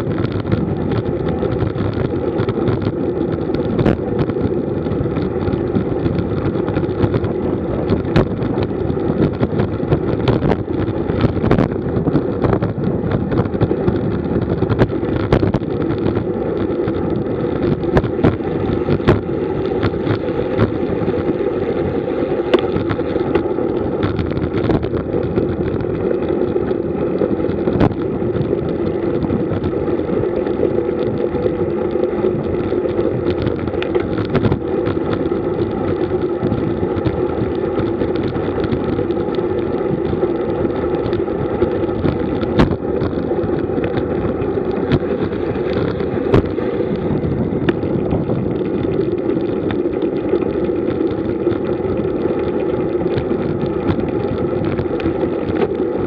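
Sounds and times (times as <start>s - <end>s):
sharp clicks and knocks from bumps: 0.0s - 56.0s
tyre and road noise: 0.0s - 56.0s
wind rushing over microphone: 0.0s - 56.0s.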